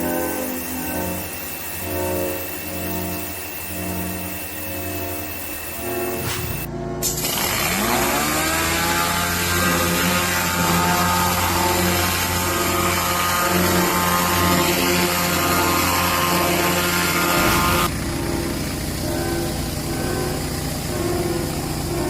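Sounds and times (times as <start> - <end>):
pressure washer motor whining: 0.0 - 22.0.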